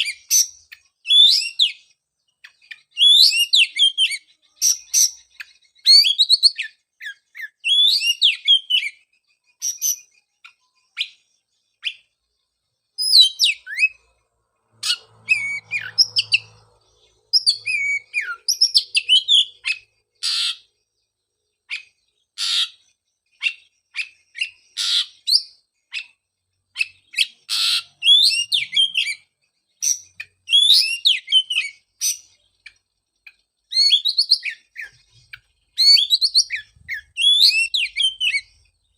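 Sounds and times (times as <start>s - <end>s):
bird singing whistled phrases: 0.0s - 9.0s, 9.6s - 12.1s, 13.0s - 14.1s, 14.8s - 16.6s, 17.3s - 20.7s, 23.4s - 32.8s, 33.6s - 38.6s.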